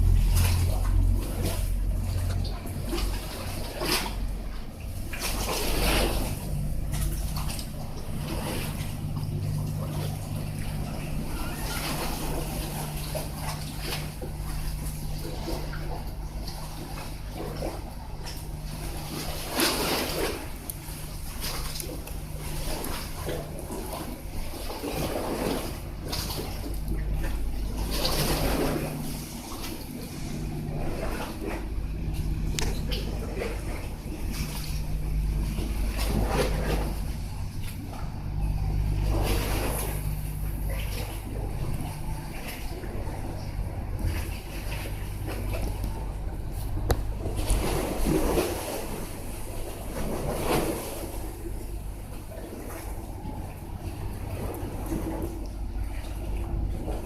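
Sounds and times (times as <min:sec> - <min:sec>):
boat engine droning: 0:00.0 - 0:57.0
water rushing and splashing: 0:00.0 - 0:57.0.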